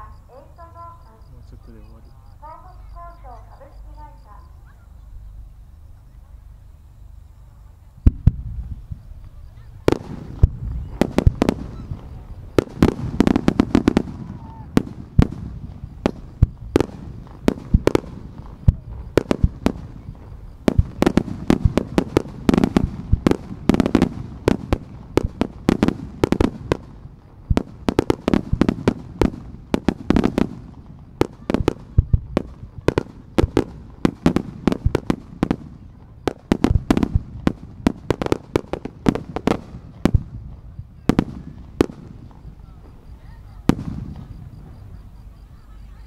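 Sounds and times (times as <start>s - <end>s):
fireworks bursting: 7.7s - 46.0s.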